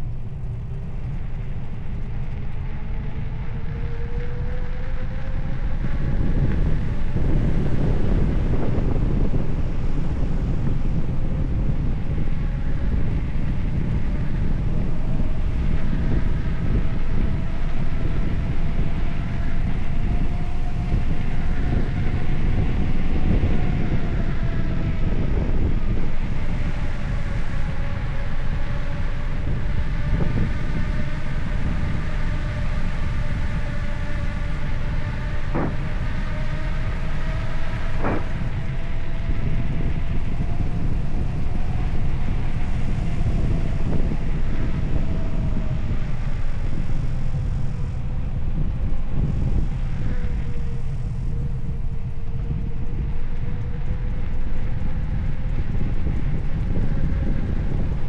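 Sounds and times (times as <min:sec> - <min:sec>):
thin wavering whine: 0:00.0 - 0:58.0
wind and road noise: 0:00.0 - 0:58.0.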